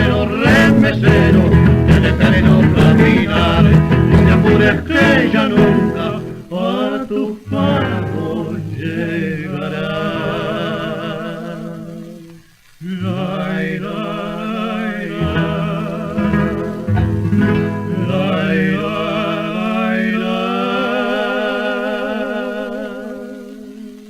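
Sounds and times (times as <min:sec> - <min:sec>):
guitars strumming: 0:00.0 - 0:06.6, 0:07.4 - 0:20.3
male duo singing with vibrato: 0:00.0 - 0:24.0.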